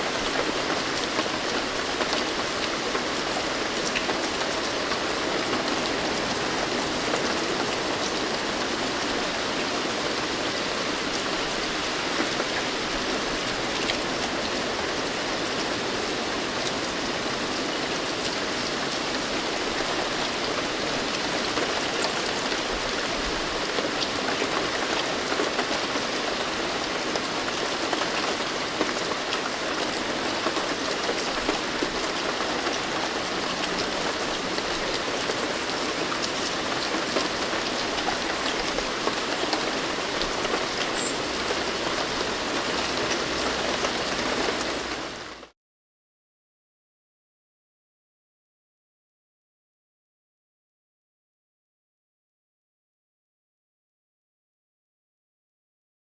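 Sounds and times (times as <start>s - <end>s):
steady rain falling: 0.0s - 45.5s.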